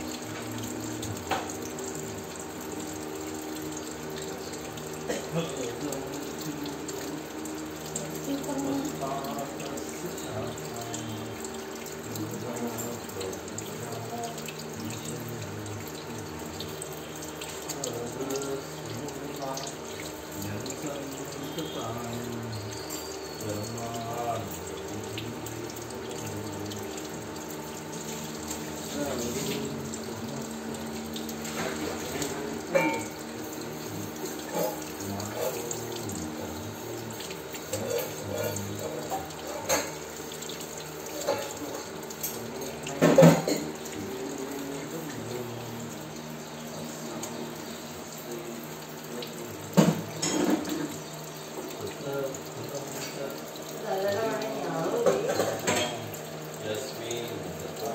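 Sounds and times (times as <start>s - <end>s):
tap water running into basin: 0.0s - 57.9s.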